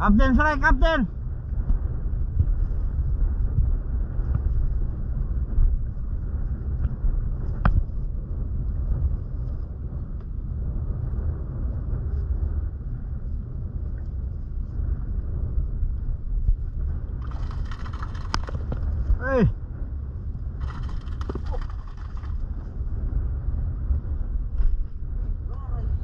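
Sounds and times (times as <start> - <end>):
boat engine low rumble: 0.0 - 26.0.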